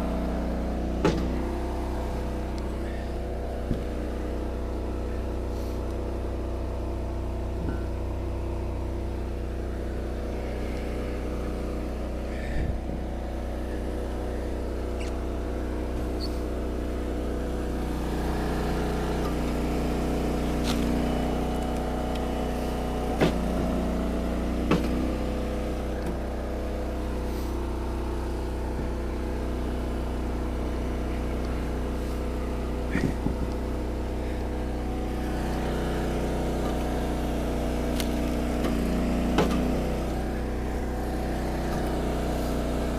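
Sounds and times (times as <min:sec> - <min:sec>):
log splitter engine running: 0:00.0 - 0:42.9.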